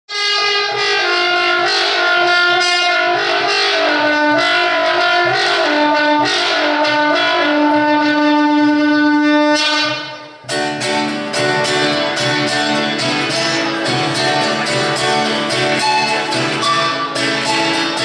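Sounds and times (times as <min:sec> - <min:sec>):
horn holding long note: 0:00.1 - 0:10.5, 0:11.7 - 0:18.0
acoustic guitar strumming: 0:00.6 - 0:18.0.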